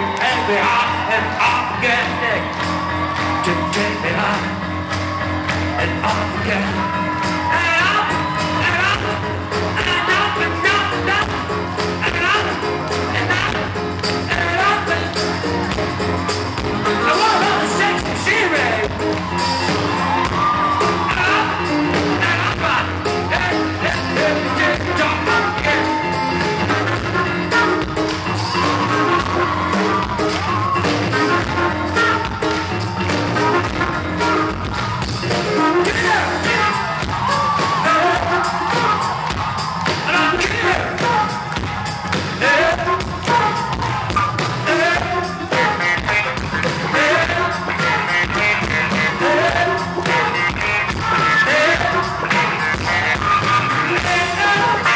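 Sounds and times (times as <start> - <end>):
upbeat rock and roll song with singing: 0.0 - 54.9.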